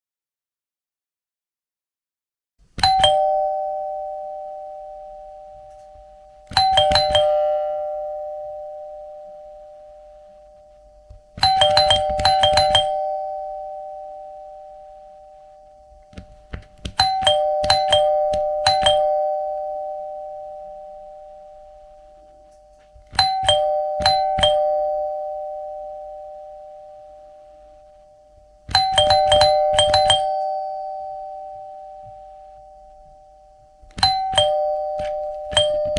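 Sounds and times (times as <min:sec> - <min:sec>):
doorbell ding-dong chime: 0:02.8 - 0:35.9.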